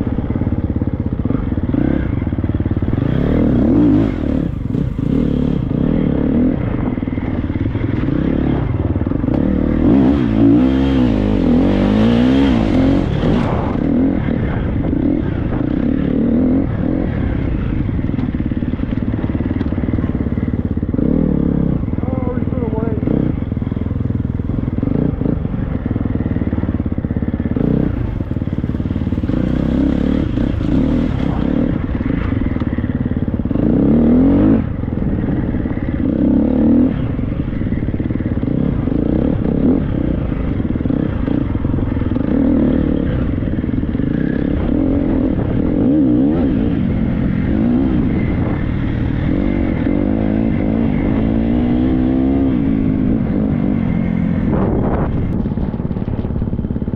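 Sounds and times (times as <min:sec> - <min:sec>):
motocross bike engine revving: 0:01.2 - 0:56.0.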